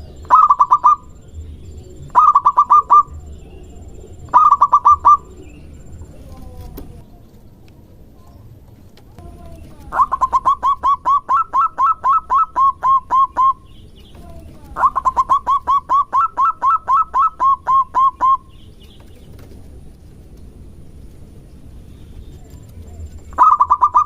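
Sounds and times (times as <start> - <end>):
dove cooing: 0.0 - 7.2, 9.2 - 19.6, 21.7 - 24.0.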